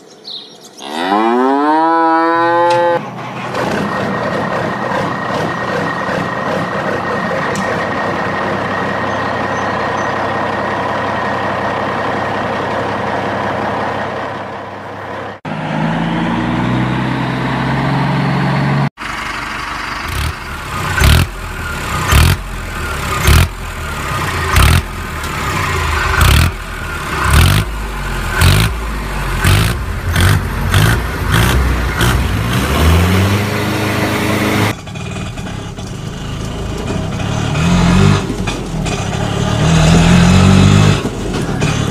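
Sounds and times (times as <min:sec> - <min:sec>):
engine revving: 0:00.8 - 0:11.3, 0:15.3 - 0:41.9
engine running: 0:01.0 - 0:41.9.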